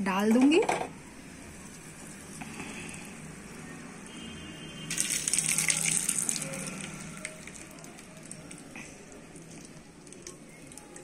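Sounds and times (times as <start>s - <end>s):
hot syrup sizzling and crackling: 1.0s - 11.0s.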